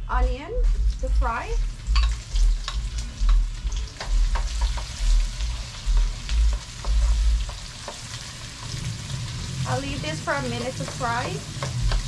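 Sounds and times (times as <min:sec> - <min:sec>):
onion sizzling in hot oil: 0:00.6 - 0:12.0.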